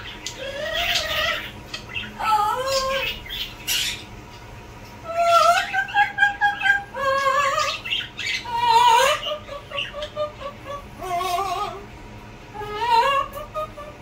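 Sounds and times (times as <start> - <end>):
parrots singing off-key: 0.0 - 14.0.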